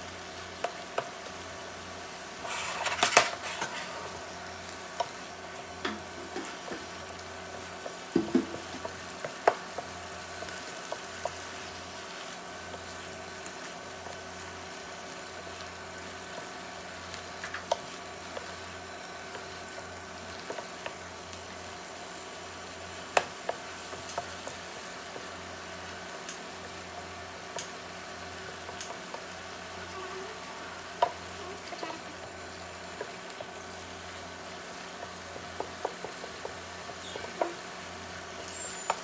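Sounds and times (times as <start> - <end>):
vegetables sizzling in a frying pan: 0.0 - 39.0.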